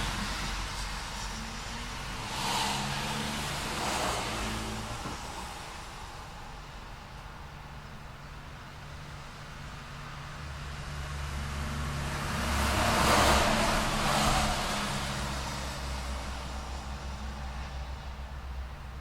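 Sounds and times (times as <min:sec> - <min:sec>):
vehicle passing close by: 0:00.0 - 0:06.7, 0:09.8 - 0:18.7
low traffic hum: 0:00.0 - 0:19.0.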